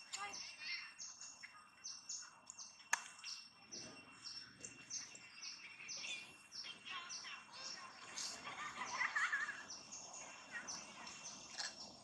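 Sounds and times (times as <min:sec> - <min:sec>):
bird chirping: 0:00.0 - 0:12.0
steady high-pitched tone: 0:00.0 - 0:12.0.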